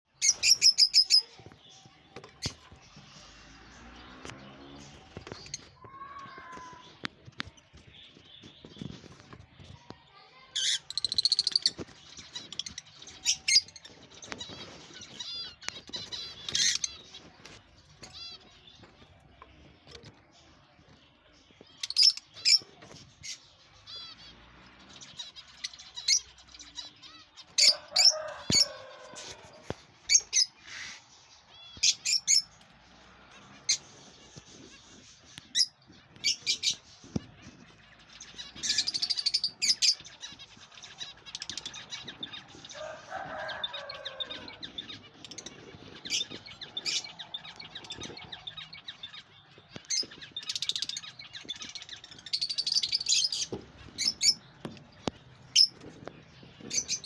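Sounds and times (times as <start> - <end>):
lovebirds chirping: 0.1 - 57.0.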